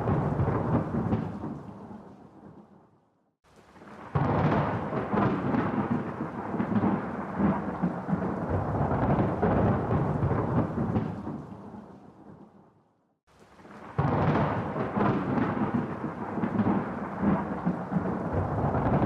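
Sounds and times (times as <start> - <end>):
thunder crack and rumble: 0.0 - 2.6, 3.8 - 12.6, 13.6 - 19.0.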